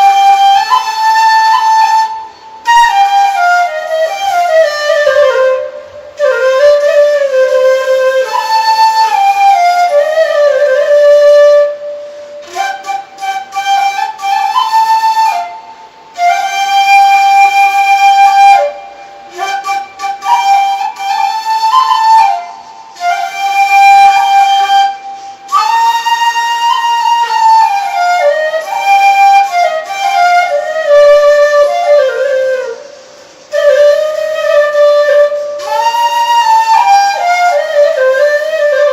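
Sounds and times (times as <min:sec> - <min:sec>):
solo flute melody: 0:00.0 - 0:38.9.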